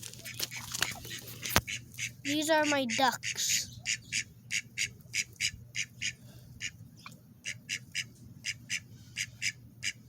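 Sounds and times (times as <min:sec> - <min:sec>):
ducks quacking: 0:00.2 - 0:06.8, 0:07.4 - 0:10.0.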